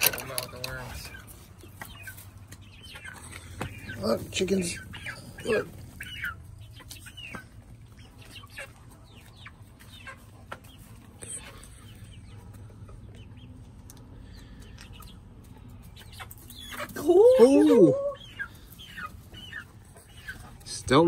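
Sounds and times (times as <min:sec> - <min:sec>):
chickens chirping: 0:00.0 - 0:21.0.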